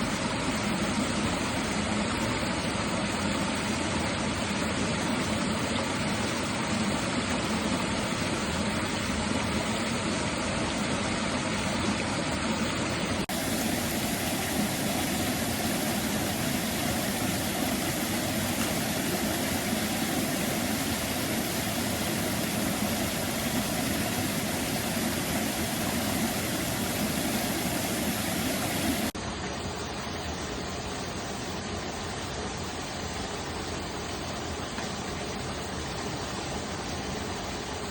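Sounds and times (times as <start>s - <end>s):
mountain stream rushing: 0.0s - 37.9s.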